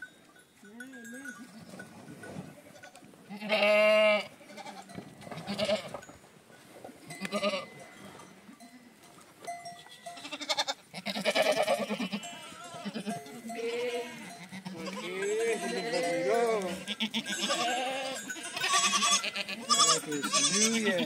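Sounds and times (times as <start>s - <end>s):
goats and sheep bleating: 0.6s - 6.1s, 7.1s - 9.1s, 9.7s - 21.0s.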